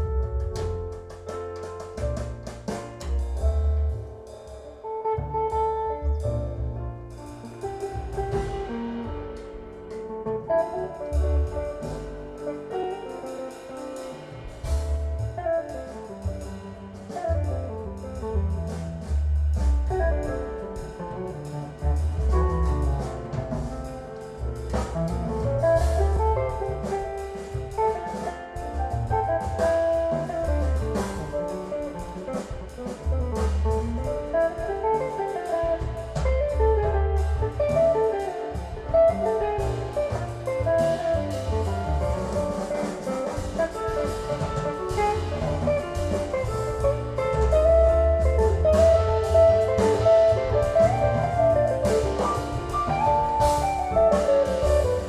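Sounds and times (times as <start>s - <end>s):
jazz guitar bass and drums: 0.0s - 55.0s.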